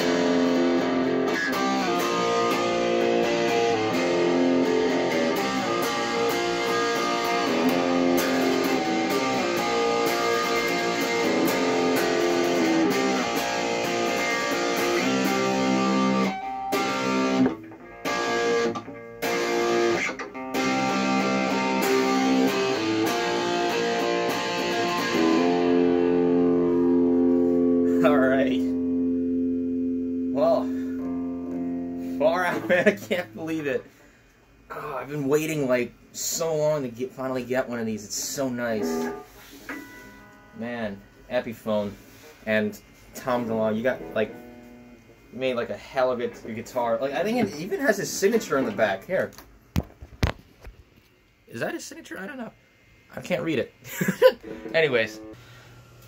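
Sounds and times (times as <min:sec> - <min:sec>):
electric guitar strumming: 0:00.0 - 0:34.0, 0:38.3 - 0:49.0, 0:54.2 - 0:55.8.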